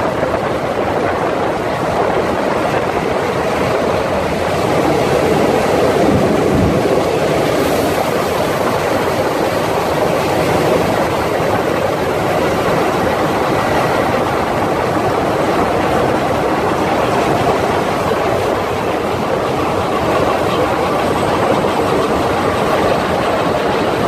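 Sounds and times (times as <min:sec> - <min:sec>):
rush of wind: 0:00.0 - 0:24.0
train wheel and rail noise: 0:00.0 - 0:24.0.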